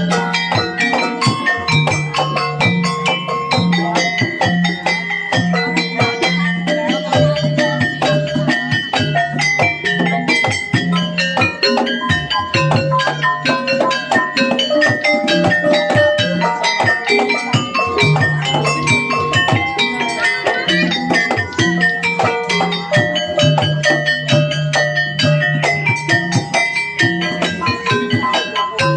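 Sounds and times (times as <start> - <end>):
drumming: 0.0 - 28.9.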